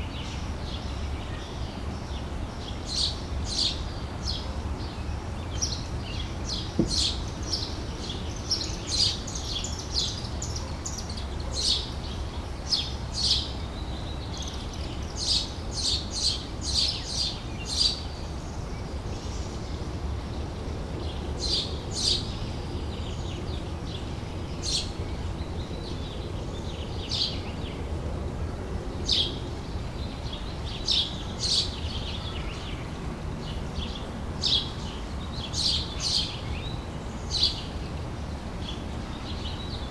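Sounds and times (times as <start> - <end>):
small birds chirping: 0.0 - 27.9, 28.9 - 39.9.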